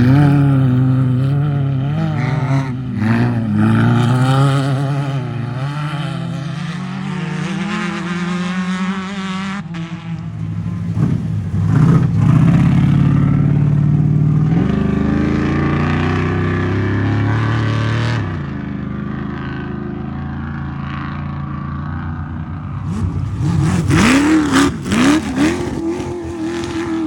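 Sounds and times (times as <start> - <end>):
race vehicle engines revving past: 0.0 - 18.7, 22.5 - 27.0.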